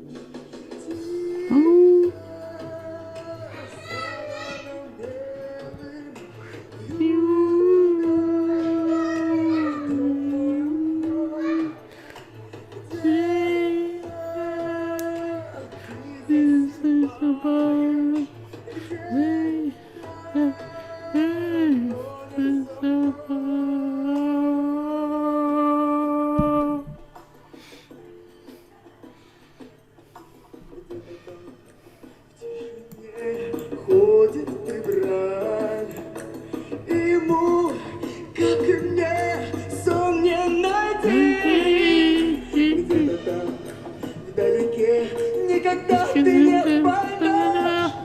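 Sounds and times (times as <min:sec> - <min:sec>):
musical accompaniment: 0:00.0 - 0:48.0
woman singing wordless vocalise: 0:00.9 - 0:12.2, 0:12.8 - 0:27.2, 0:32.4 - 0:48.0.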